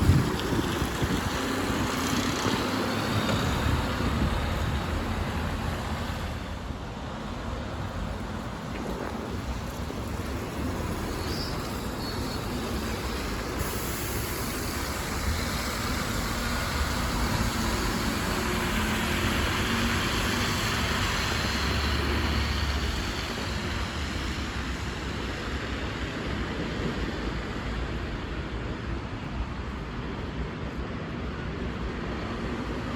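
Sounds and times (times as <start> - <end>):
bus engine and tyres passing: 0.0 - 32.9
traffic: 0.0 - 32.9.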